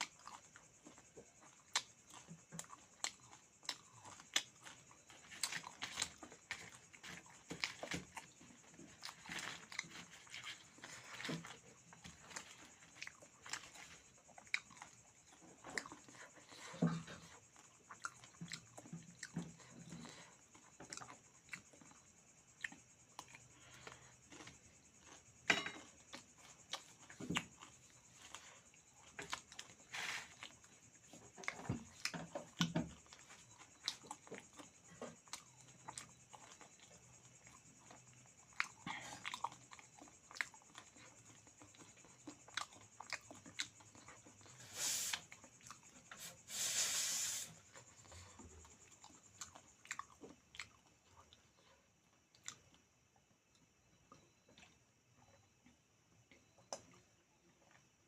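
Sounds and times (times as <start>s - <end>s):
hissy eating sounds: 0.0s - 52.9s
crunching and chewing food: 0.0s - 58.0s.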